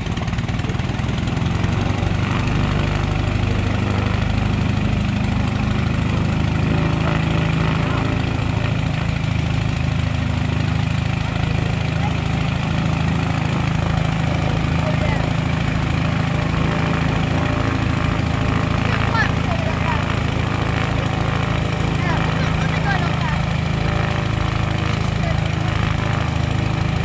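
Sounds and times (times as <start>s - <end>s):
propeller aircraft engine droning: 0.0s - 27.0s.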